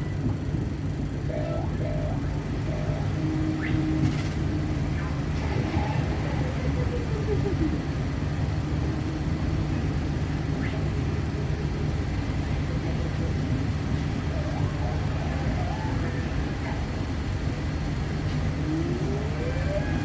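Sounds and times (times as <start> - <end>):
train rumble inside carriage: 0.0 - 20.0.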